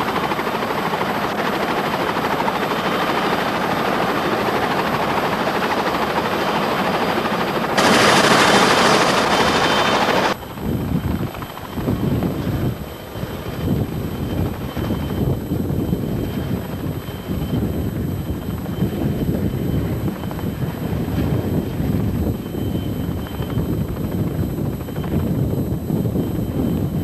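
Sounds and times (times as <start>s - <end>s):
helicopter rotor chop: 0.0s - 27.0s
thin high whine: 0.0s - 27.0s.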